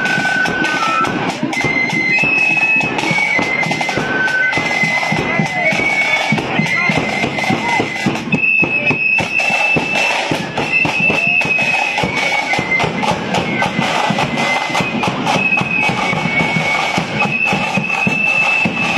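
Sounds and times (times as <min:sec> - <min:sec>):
bass and snare drums pounding: 0:00.0 - 0:18.9
high flute melody: 0:00.0 - 0:18.9.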